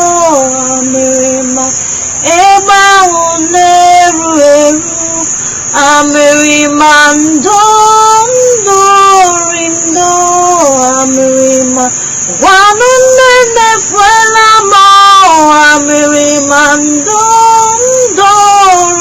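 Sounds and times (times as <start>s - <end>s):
person singing slow song: 0.0s - 19.0s.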